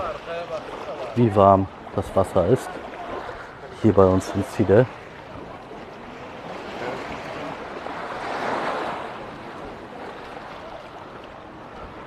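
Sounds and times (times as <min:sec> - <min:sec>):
waves washing onto sand and rocks: 0:00.0 - 0:12.0.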